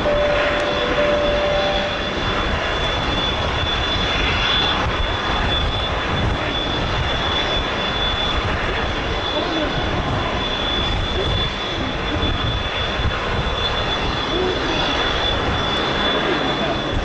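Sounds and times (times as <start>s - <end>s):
airliner engine rush and whine: 0.0s - 17.0s.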